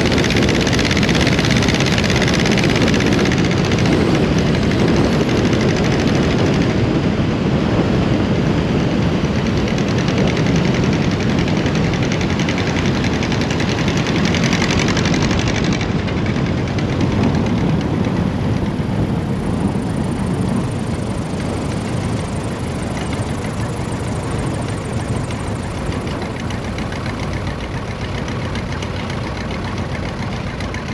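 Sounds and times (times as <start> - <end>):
propeller plane engine running: 0.0 - 30.9.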